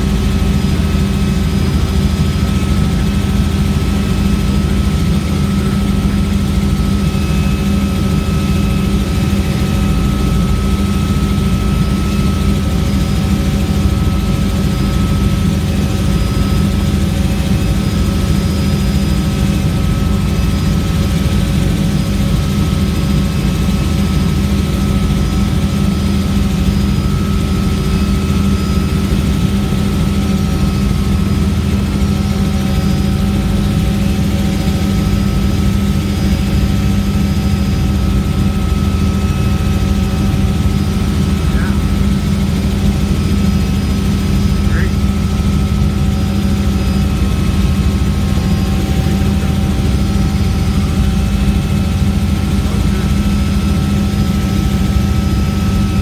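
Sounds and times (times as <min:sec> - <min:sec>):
helicopter drone: 0:00.0 - 0:56.0
helicopter whining tones: 0:00.0 - 0:56.0.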